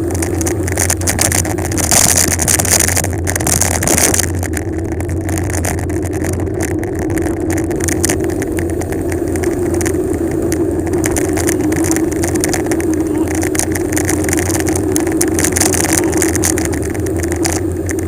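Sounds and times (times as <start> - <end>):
bicycle rolling rumble: 0.0 - 18.0
wind rushing over microphone: 0.0 - 18.0.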